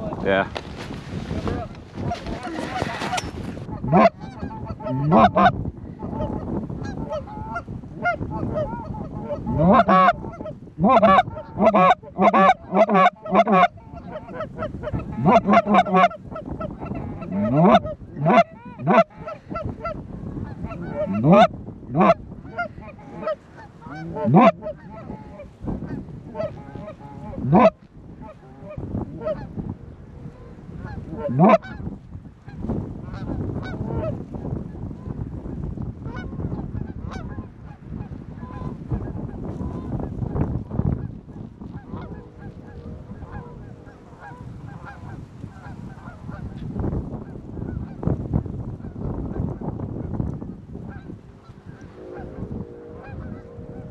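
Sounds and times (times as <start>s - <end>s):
goose call honks and clucks: 1.4s - 29.5s, 30.2s - 31.9s, 33.0s - 34.2s, 36.0s - 37.8s, 38.4s - 46.6s, 50.9s - 53.9s.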